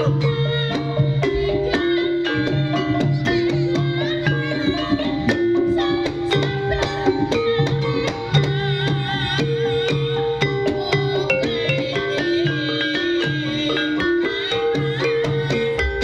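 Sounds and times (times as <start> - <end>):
drum strokes: 0.0 - 16.0
metallophones ringing: 0.0 - 16.0
wavering melody line: 0.0 - 16.0.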